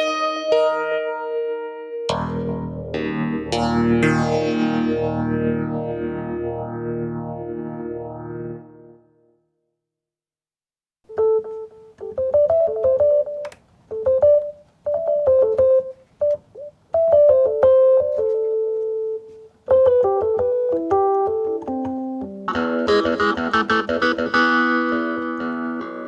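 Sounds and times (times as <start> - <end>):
electric piano melody: 0.0 - 9.2, 11.1 - 26.0.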